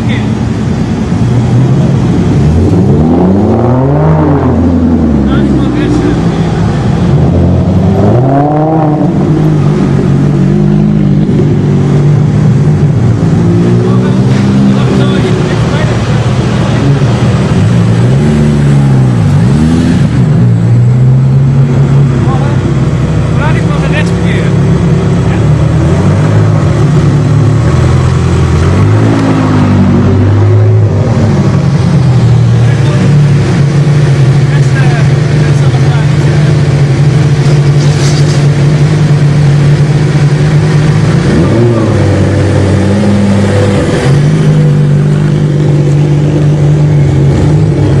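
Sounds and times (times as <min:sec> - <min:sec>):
car engine running at low speed: 0:00.0 - 0:48.0.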